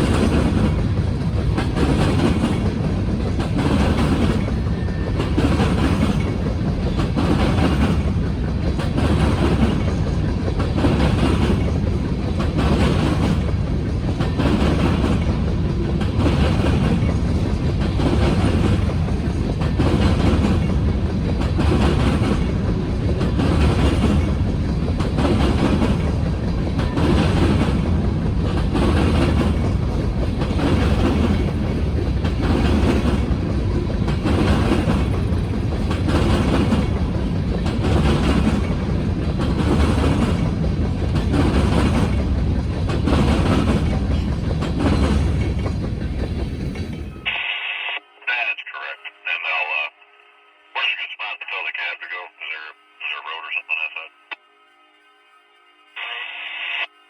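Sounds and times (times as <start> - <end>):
train rumble: 0.0 - 47.3
train wheels clicking over rail joints: 0.0 - 47.3.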